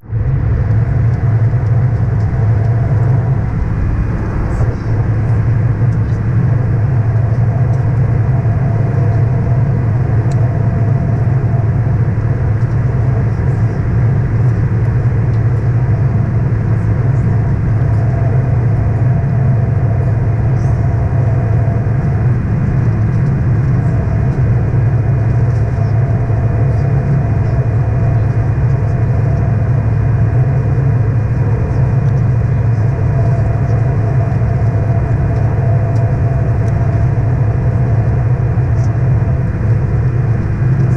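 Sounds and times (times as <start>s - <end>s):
airliner cabin engine hum: 0.0s - 40.9s.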